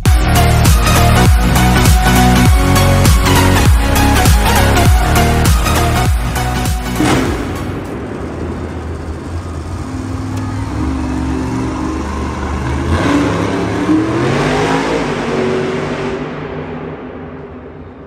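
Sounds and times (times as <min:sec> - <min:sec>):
truck engine revving: 0:00.0 - 0:17.9.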